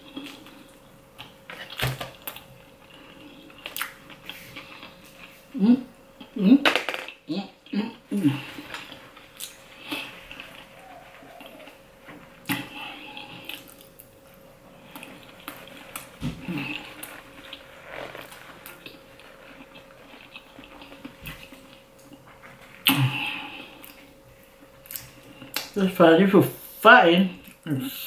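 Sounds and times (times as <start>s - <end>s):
chewing with mouth sounds: 0.0s - 5.6s, 7.5s - 25.8s
faint steady hum: 0.0s - 28.0s.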